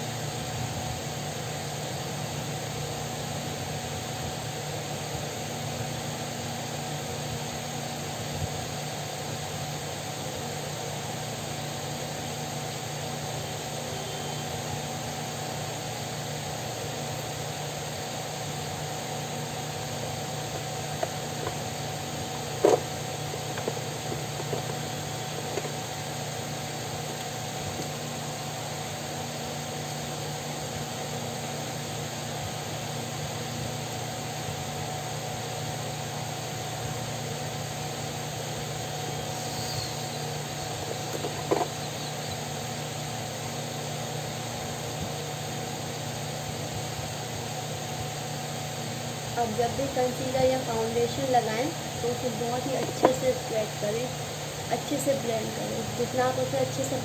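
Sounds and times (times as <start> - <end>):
electric fan whirring: 0.0 - 57.0.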